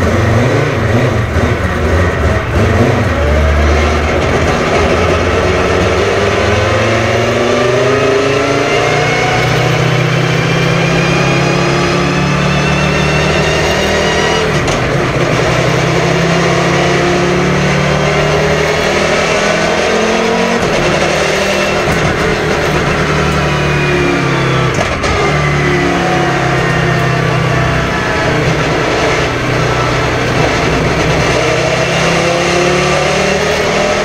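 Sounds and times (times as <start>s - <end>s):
race car engine running hard: 0.0s - 34.0s.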